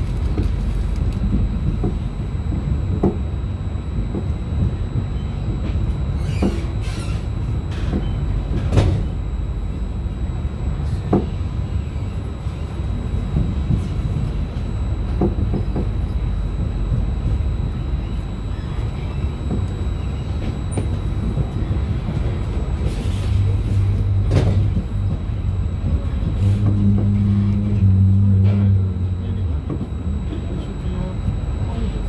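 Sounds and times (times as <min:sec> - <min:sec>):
low steady hum: 0:00.0 - 0:32.0
train wheels rumbling on rail: 0:00.0 - 0:32.0.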